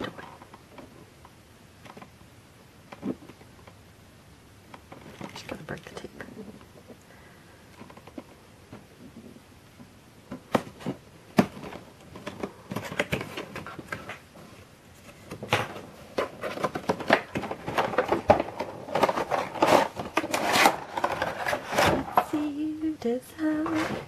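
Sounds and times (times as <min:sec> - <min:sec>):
plastic and cardboard crinkling: 0:00.0 - 0:03.8, 0:04.6 - 0:07.0, 0:07.6 - 0:24.0.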